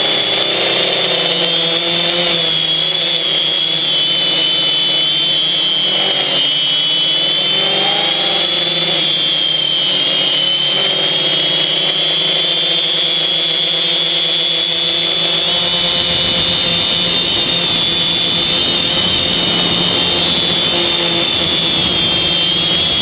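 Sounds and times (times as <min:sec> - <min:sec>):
quadcopter motors high whine: 0:00.0 - 0:23.0.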